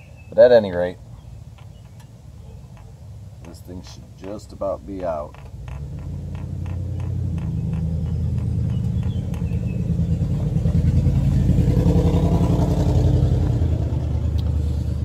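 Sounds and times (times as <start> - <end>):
engine low pulsing rumble: 0.0 - 15.0.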